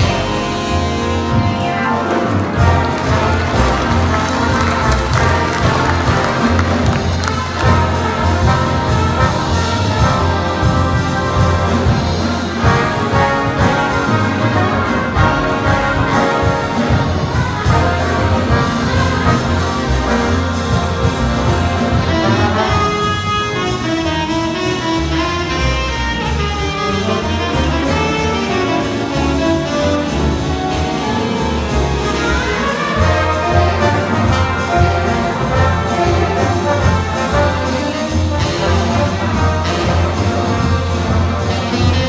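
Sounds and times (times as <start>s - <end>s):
big band jazz: 0.0s - 42.0s.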